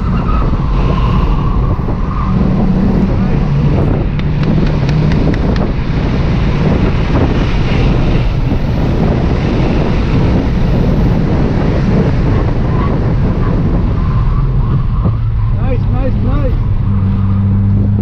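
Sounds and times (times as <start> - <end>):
car engine running hard: 0.0 - 18.0
wind buffeting microphone: 0.0 - 18.0.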